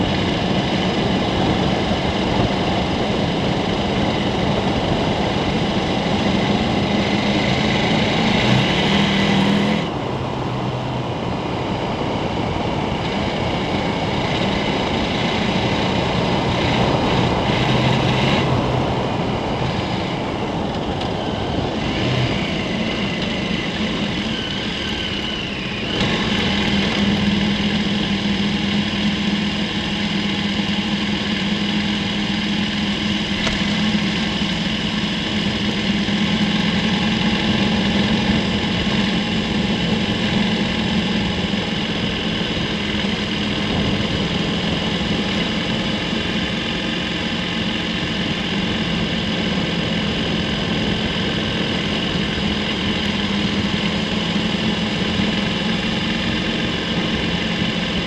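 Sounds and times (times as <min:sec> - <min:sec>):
motorcycle engine running: 0:00.0 - 0:58.0
wind noise: 0:00.0 - 0:58.0.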